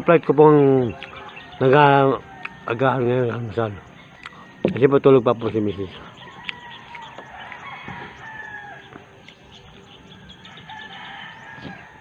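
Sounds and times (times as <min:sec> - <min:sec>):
roosters crowing: 0:00.5 - 0:12.0.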